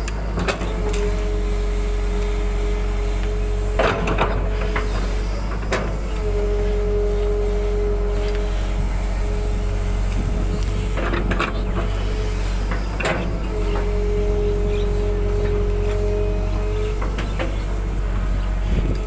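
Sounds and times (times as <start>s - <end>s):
excavator diesel engine running: 0.0s - 19.0s
hydraulic whine: 0.0s - 19.0s.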